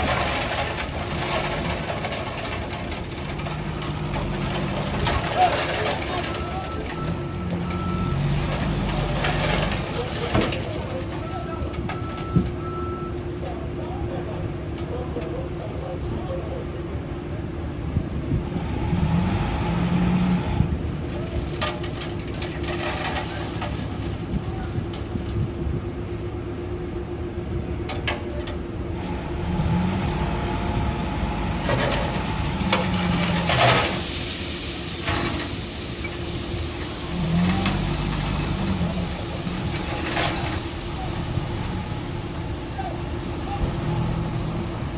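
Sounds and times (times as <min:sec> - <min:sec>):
bulldozer engine drone: 0:00.0 - 0:44.9.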